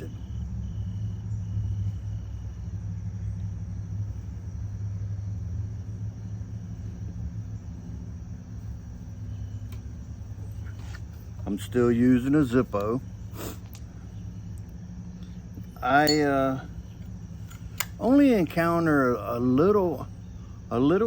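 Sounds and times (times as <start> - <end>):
low rumbling hum: 0.0 - 21.0.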